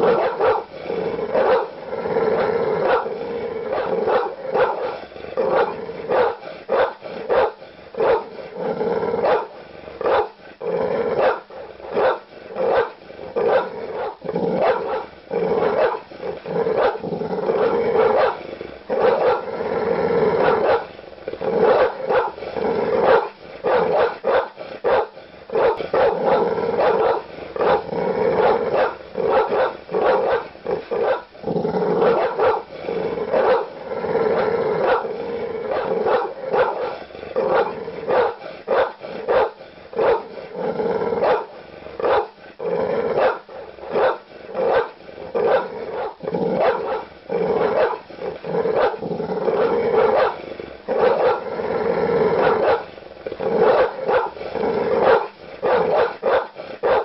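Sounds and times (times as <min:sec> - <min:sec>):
large dog barking aggressively: 0:00.0 - 0:57.0.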